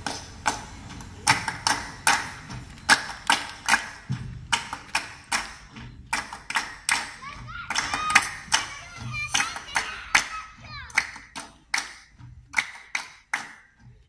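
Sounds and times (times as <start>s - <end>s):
rhythmic percussion strikes: 0.0s - 14.0s.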